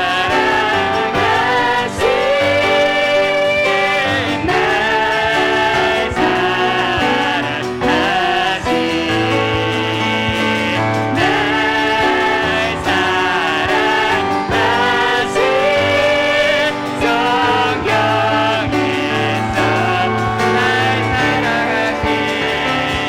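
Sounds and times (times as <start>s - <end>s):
group singing a praise song: 0.0s - 23.0s
piano accompaniment: 0.0s - 23.0s.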